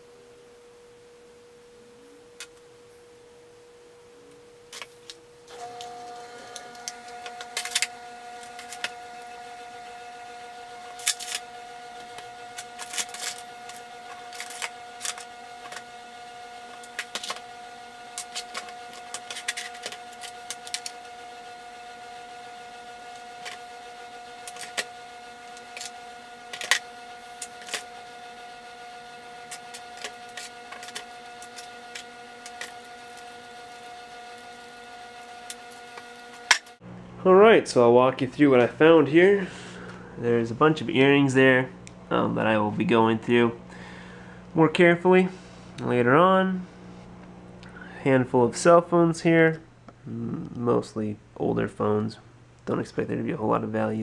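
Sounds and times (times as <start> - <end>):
steady hum: 0.0 - 54.0.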